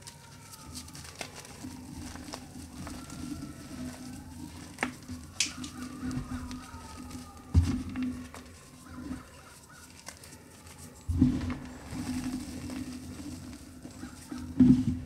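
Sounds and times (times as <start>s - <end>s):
chalk chunk crunching: 0.0s - 15.0s
chalk crumbling: 0.0s - 15.0s.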